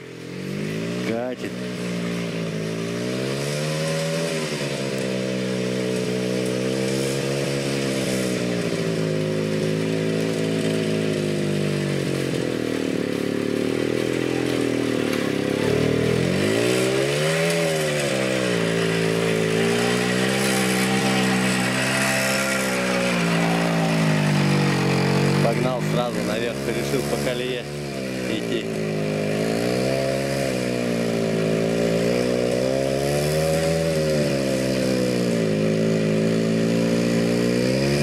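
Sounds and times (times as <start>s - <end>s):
two-stroke motorcycle engine revving: 0.0s - 38.0s.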